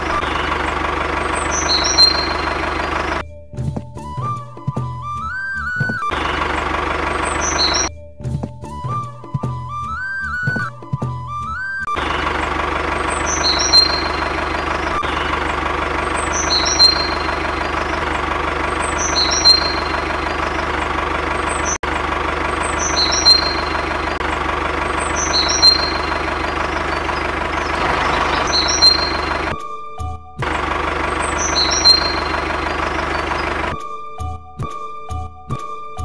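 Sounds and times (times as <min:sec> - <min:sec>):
heavy vehicle engine idling: 0:00.0 - 0:03.3, 0:04.7 - 0:07.9, 0:09.8 - 0:29.8, 0:30.4 - 0:34.4.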